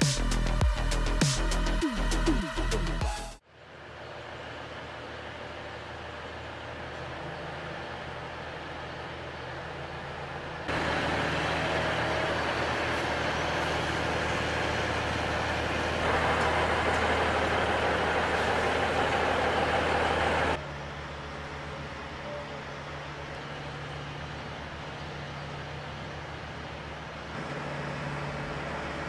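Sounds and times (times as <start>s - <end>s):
heavy truck diesel engines: 0.0s - 29.0s.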